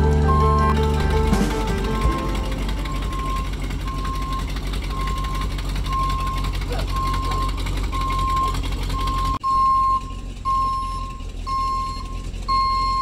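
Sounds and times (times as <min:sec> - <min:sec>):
truck engine running: 0:00.0 - 0:13.0
reversing alarm beeping: 0:00.2 - 0:13.0.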